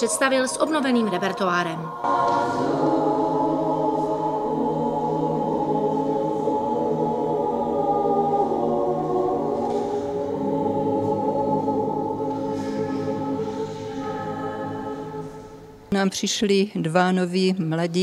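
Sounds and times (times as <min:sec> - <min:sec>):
mixed choir singing in harmony: 0:00.0 - 0:15.9.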